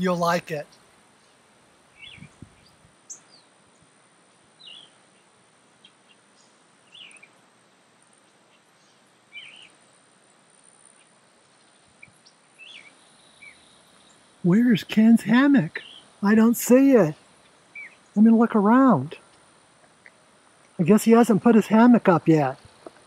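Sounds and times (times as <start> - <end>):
birds chirping: 0.0 - 3.8, 4.5 - 7.4, 8.0 - 23.0
faint outdoor hiss: 0.0 - 23.0.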